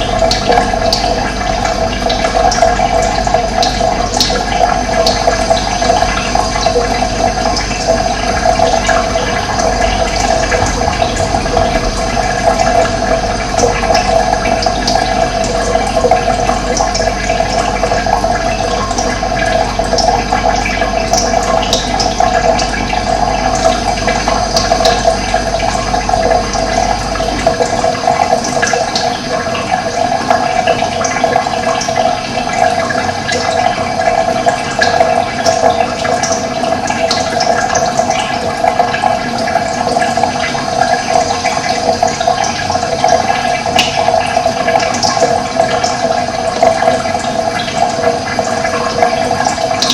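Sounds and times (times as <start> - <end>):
running water rushing: 0.0 - 49.9.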